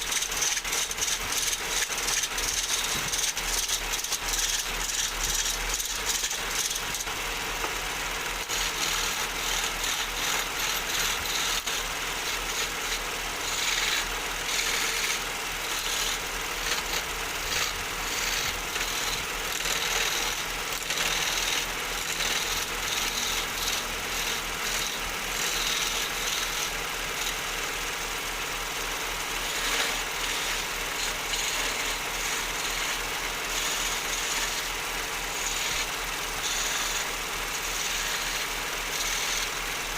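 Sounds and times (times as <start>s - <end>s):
turning tool scraping wood: 0.0s - 39.9s
wood lathe hum: 0.0s - 39.9s.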